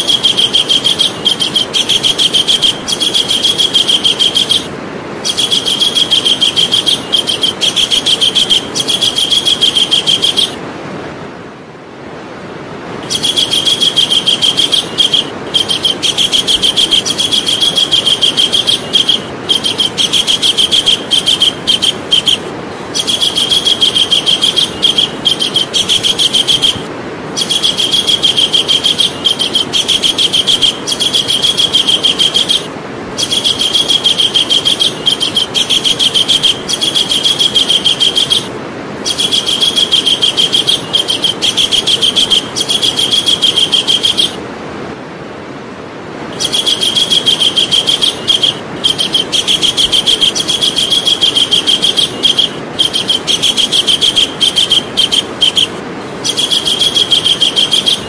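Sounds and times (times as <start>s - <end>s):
kingfisher calling: 0.0s - 10.6s, 13.0s - 44.4s, 46.3s - 58.0s
steady background hiss: 0.0s - 58.0s.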